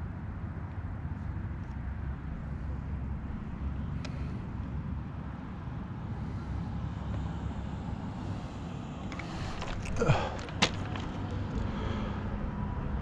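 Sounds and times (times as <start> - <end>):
outdoor low rumble: 0.0 - 13.0.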